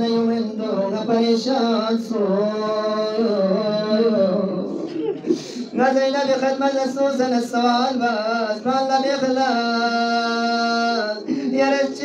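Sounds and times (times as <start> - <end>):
man chanting into microphone: 0.0 - 4.9, 5.6 - 12.0.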